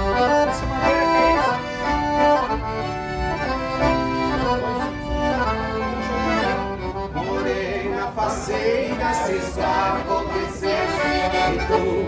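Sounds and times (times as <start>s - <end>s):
accordions playing a waltz: 0.0s - 12.0s.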